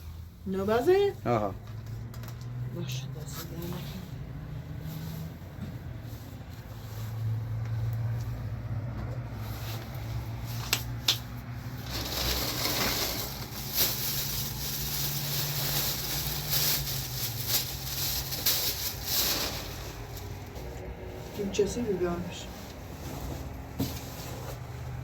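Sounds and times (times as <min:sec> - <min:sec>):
rushing road or wind noise: 0:00.0 - 0:25.0
vehicle engine humming: 0:00.0 - 0:25.0.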